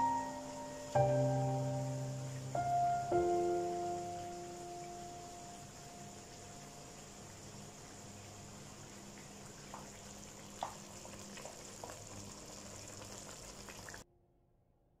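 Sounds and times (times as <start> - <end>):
pot bubbling and sizzling: 0.0 - 14.0.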